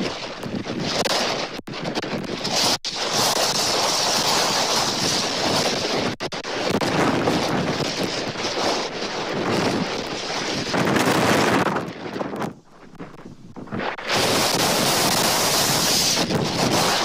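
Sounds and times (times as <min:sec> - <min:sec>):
wind rushing across microphone: 0:00.0 - 0:17.0.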